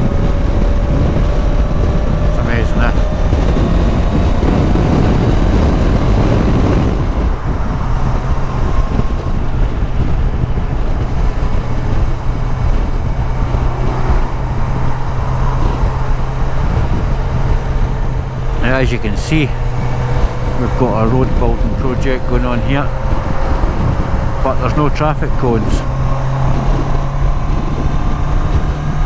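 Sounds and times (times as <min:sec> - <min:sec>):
motorcycle engine drone: 0:00.0 - 0:29.0
wind rush over microphone: 0:00.0 - 0:29.0.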